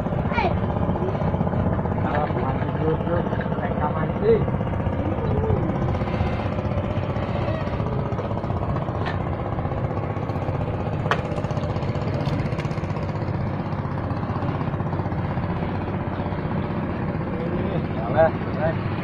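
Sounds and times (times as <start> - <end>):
small boat engine idling: 0.0 - 19.0.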